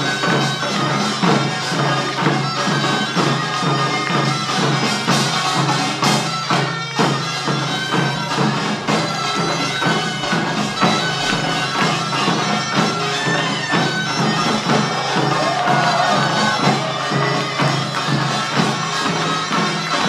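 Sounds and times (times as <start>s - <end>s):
drums and small gongs beating: 0.0s - 20.0s.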